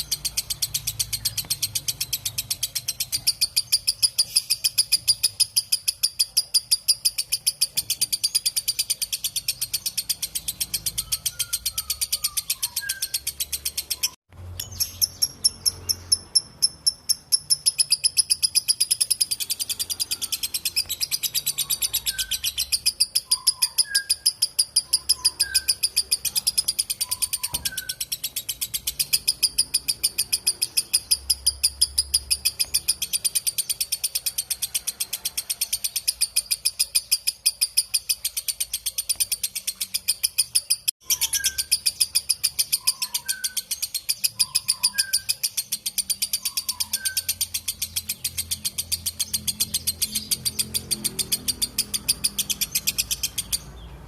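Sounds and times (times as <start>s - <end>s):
bird high-pitched chattering trill: 0.0s - 54.0s
faint lower bird chirps: 0.0s - 54.0s.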